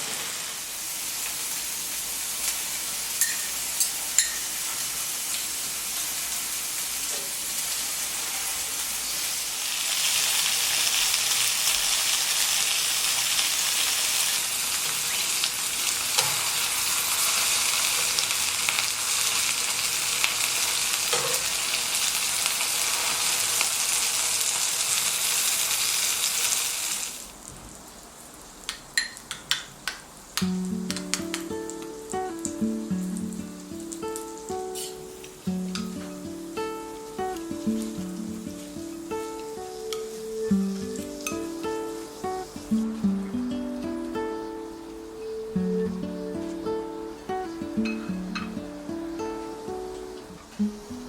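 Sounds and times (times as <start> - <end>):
fish sizzling in oil: 0.0 - 51.0.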